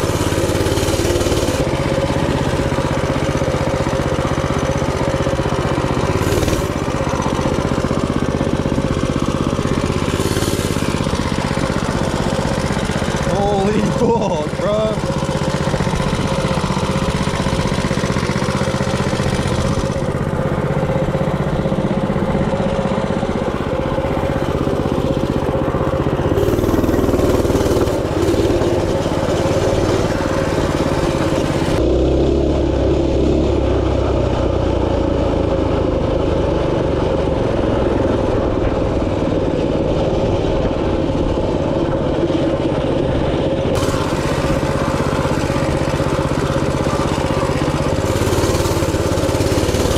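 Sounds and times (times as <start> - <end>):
minibike engine running: 0.0 - 49.9.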